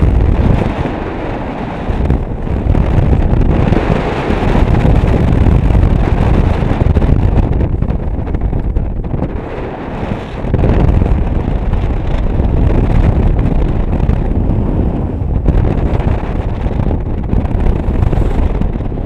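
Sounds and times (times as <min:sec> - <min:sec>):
wind noise with deep rumble: 0:00.0 - 0:19.0.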